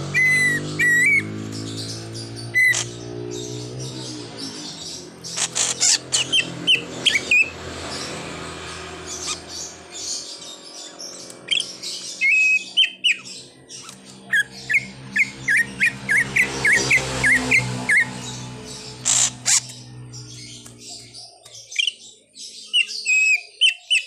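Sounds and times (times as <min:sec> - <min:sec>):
bird chirping and whistling: 0:00.0 - 0:08.2, 0:09.2 - 0:24.0.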